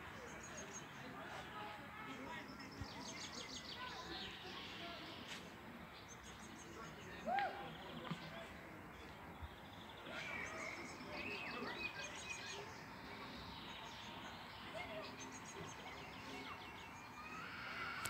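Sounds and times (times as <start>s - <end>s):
faint outdoor background noise: 0.0s - 18.0s
songbirds chirping and trilling: 0.0s - 18.0s.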